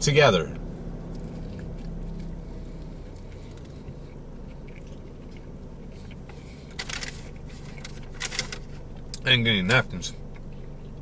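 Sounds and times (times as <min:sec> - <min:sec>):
steady low hum: 0:00.0 - 0:11.0
man chewing a sandwich: 0:00.8 - 0:09.3, 0:10.2 - 0:11.0.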